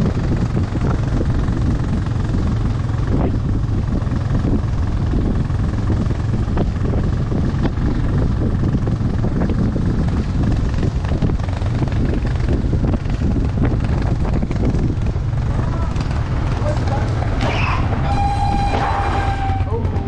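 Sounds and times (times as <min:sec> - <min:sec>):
vehicle engine humming: 0:00.0 - 0:20.0
wind on microphone: 0:00.0 - 0:20.0.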